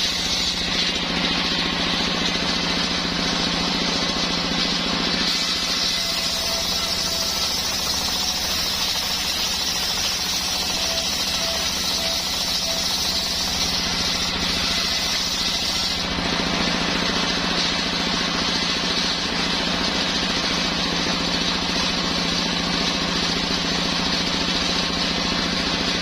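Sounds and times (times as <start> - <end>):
saw blade cutting wood: 0.0 - 26.0.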